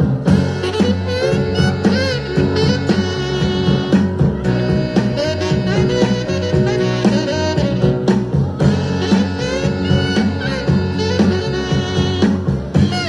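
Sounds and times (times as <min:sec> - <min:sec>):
swing dance music with brass: 0:00.0 - 0:13.0.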